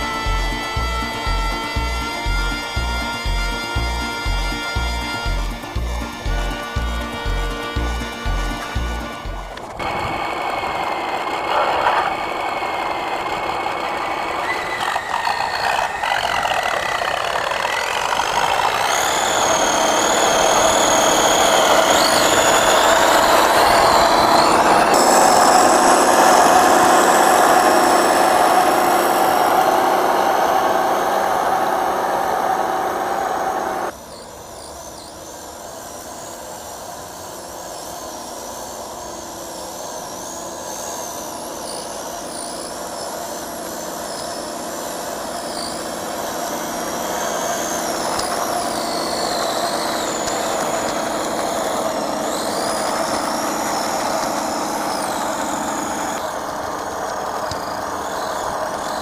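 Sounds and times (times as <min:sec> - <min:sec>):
toy truck drivetrain whining: 0:00.0 - 0:59.0.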